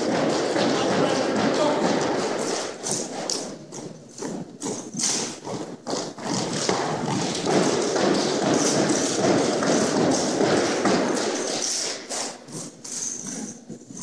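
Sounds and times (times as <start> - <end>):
footsteps on hardwood floor: 0.0 - 11.8.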